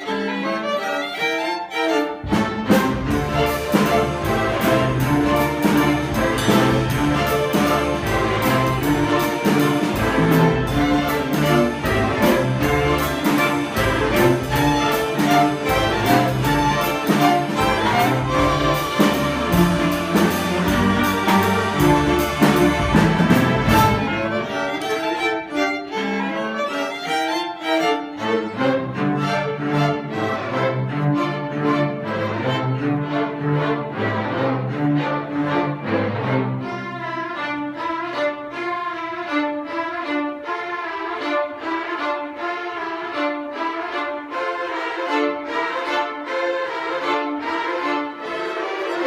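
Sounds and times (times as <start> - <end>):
string orchestra playing: 0.0 - 49.0.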